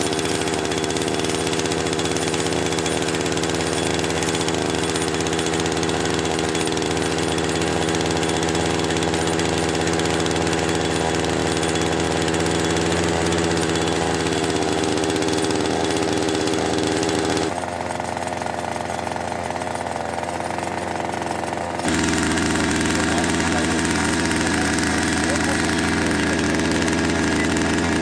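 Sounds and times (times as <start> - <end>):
small engine driving winch: 0.0 - 28.0.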